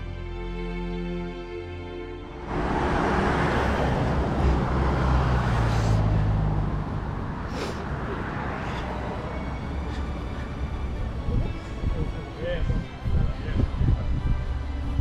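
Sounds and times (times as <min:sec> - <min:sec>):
road and traffic noise: 0:00.0 - 0:15.0
vehicle engine rumble: 0:02.2 - 0:15.0.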